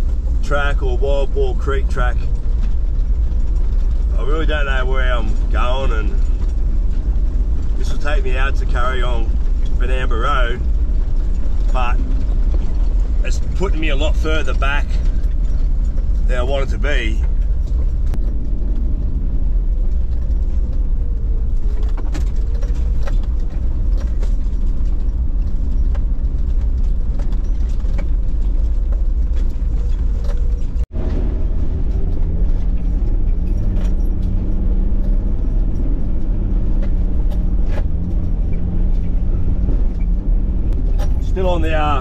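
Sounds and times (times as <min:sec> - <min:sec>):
knocks and rattles over ruts: 0:00.0 - 0:42.0
vehicle engine drone: 0:00.0 - 0:42.0.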